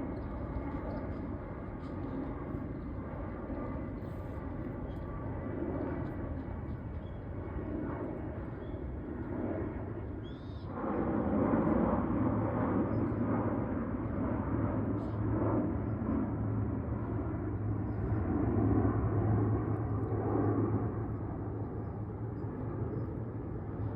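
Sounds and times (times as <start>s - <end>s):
aircraft flying overhead: 0.0s - 23.9s.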